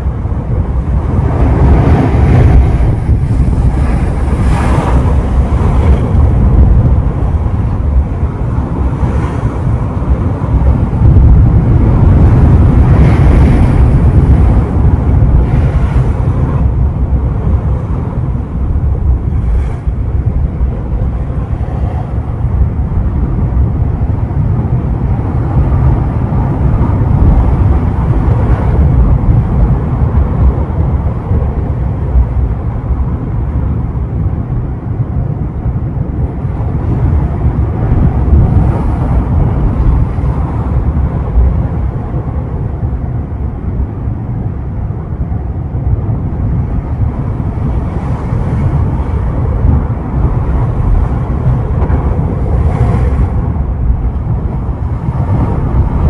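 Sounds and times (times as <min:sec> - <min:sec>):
ocean surf rolling ashore: 0:00.0 - 0:56.0
wind buffeting microphone: 0:00.0 - 0:56.0.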